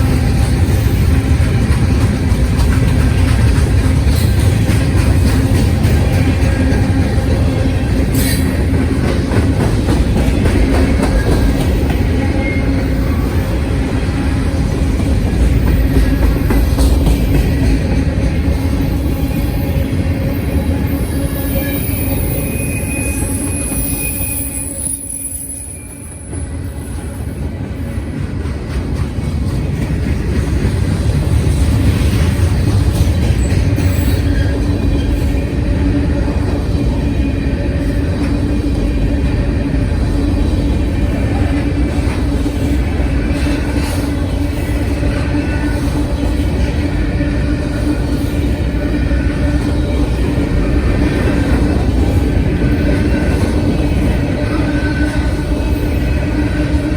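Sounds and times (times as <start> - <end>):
rail clacks: 0.0 - 56.9
train wheels rumbling on track: 0.0 - 56.9.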